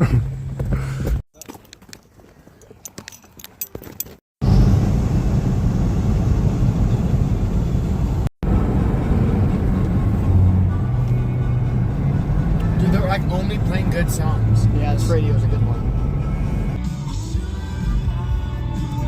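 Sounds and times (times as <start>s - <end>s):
car road and engine rumble: 0.0s - 1.2s, 4.4s - 19.0s.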